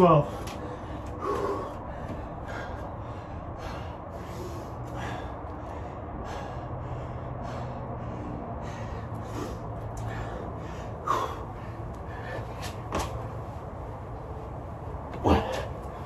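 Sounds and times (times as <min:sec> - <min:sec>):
man breathing hard: 0:00.1 - 0:16.0.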